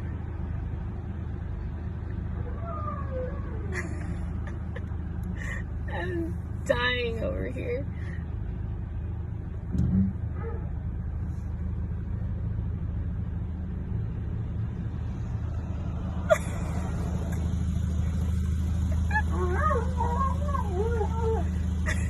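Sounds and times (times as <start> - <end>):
vehicle low rumble: 0.0 - 22.0.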